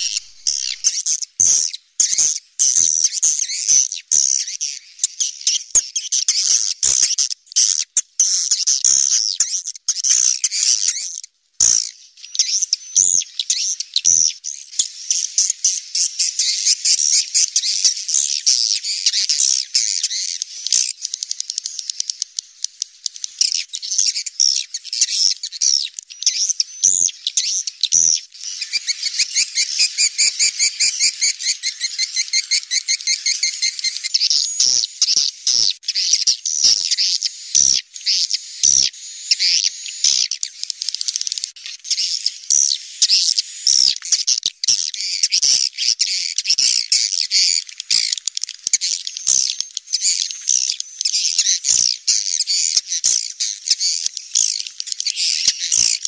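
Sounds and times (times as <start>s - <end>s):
birds twittering chirps: 0.0s - 56.0s.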